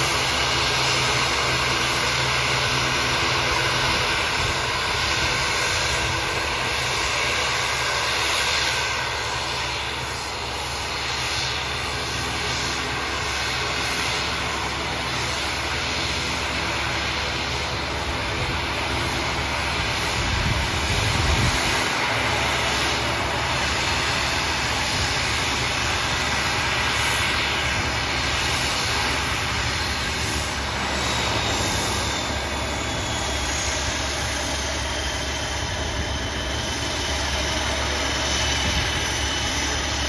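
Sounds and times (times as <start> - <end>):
turboprop engines idling: 0.0 - 40.0.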